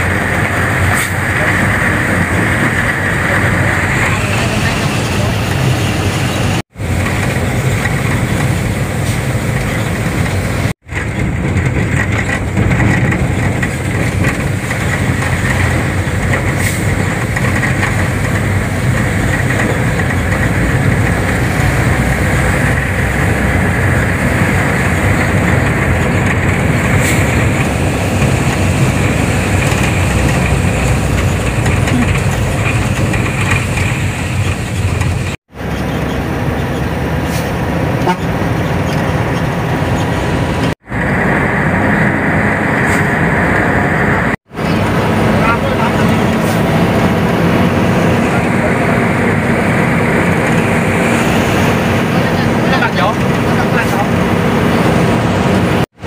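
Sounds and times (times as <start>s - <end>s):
road noise: 0.0s - 56.0s
truck engine running: 0.0s - 56.0s.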